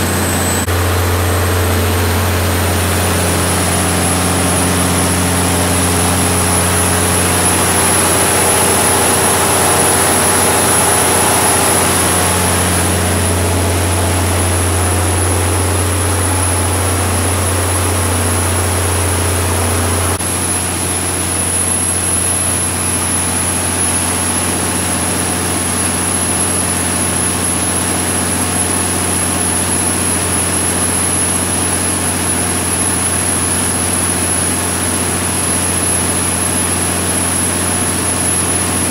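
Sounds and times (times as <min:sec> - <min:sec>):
diesel generator engine humming: 0:00.0 - 0:38.9.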